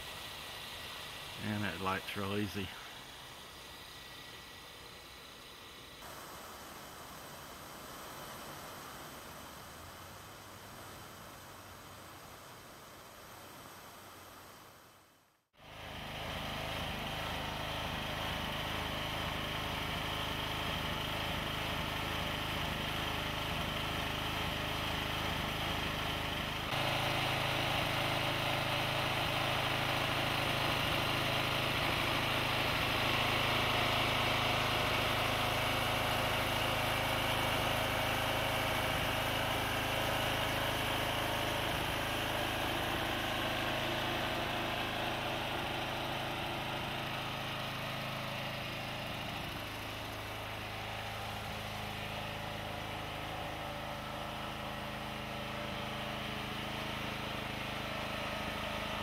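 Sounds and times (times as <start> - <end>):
lawnmower engine running: 0.0 - 12.4, 15.6 - 59.0.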